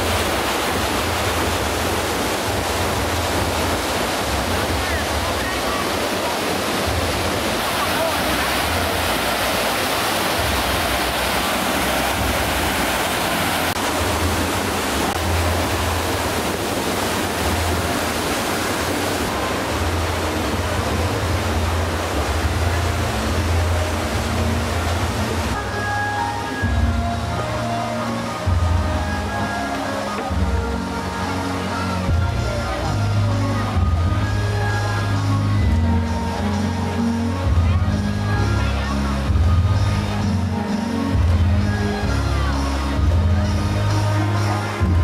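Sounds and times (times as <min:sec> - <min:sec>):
rushing water: 0:00.0 - 0:45.0.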